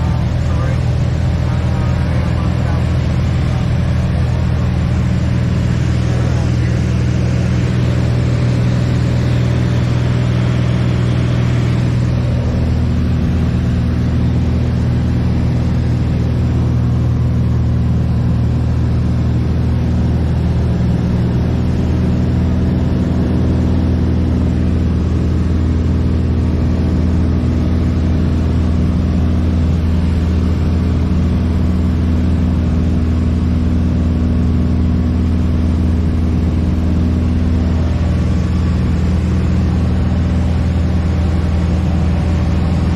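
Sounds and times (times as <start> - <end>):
light airplane engine droning: 0.0 - 42.9.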